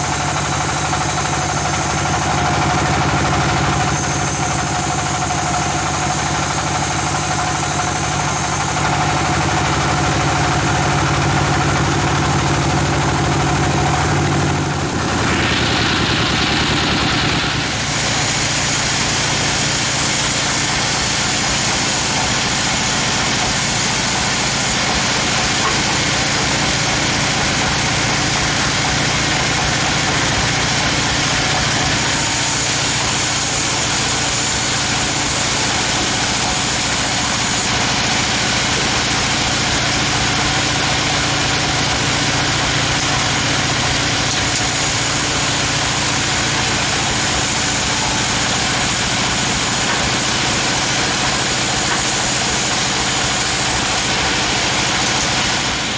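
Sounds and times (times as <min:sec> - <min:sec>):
engine-driven sawmill saw running: 0:00.0 - 0:55.9.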